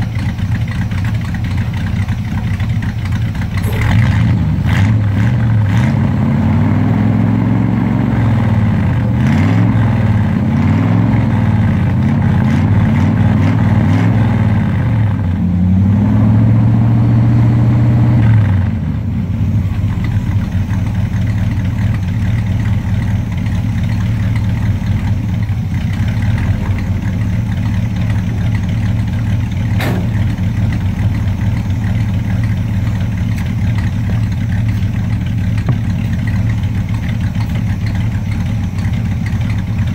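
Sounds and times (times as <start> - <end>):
truck engine revving and idling: 0.0 - 39.9.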